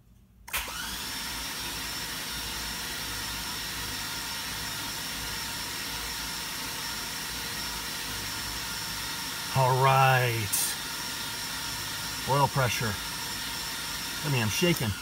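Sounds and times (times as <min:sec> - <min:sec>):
starter motor cranking whir: 0:00.5 - 0:15.0.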